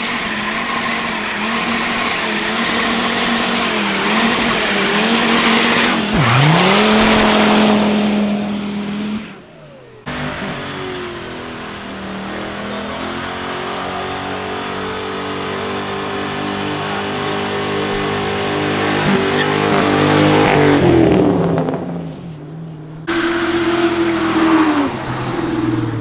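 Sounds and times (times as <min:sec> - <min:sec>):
car engine: 0:00.0 - 0:26.0.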